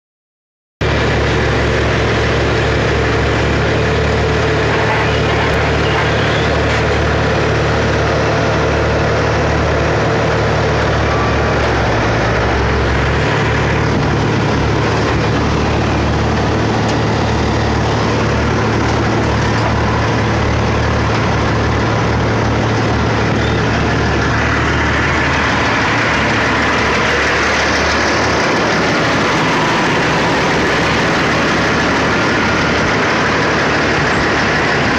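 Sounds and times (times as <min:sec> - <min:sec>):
diesel truck engine idling: 0:00.8 - 0:34.9.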